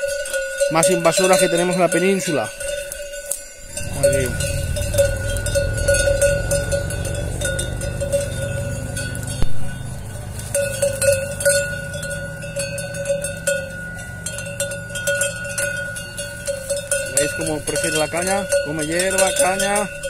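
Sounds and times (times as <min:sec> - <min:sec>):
cowbell clanking: 0:00.0 - 0:20.0
cane stalks crackling: 0:02.7 - 0:19.6.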